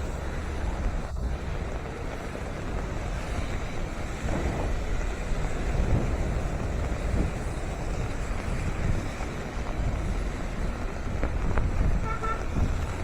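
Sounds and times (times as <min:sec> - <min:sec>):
sea rushing: 0:00.0 - 0:13.0
traffic noise: 0:00.0 - 0:13.0
wind buffeting microphone: 0:00.0 - 0:13.0.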